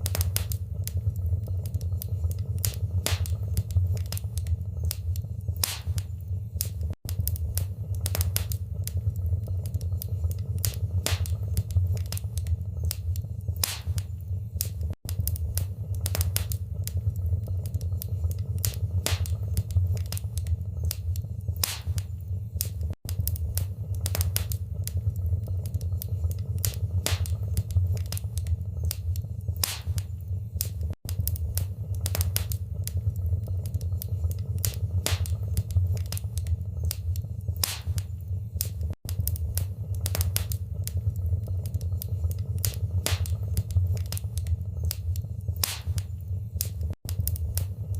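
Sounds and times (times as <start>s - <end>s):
fire crackling in fireplace: 0.0s - 47.9s
low rumble of flames: 0.0s - 47.9s.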